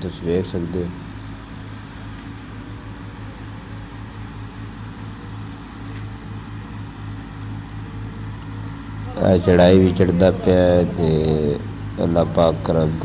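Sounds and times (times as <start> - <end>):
tractor diesel engines labouring: 0.0 - 13.0.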